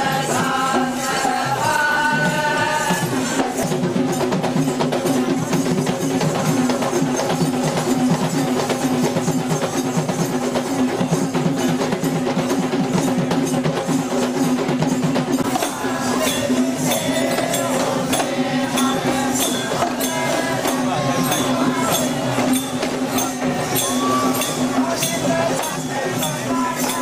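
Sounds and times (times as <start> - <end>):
fast dense drumming: 0.1 - 27.0.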